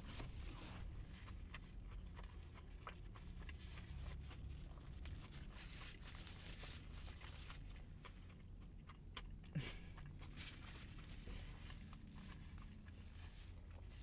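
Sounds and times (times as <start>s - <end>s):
person chewing sandwich: 0.0s - 14.0s.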